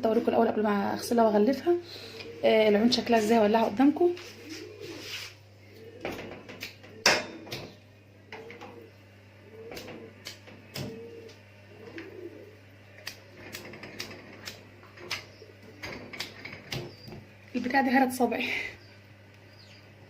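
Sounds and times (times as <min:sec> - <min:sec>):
pigeon cooing: 0:00.9 - 0:20.0.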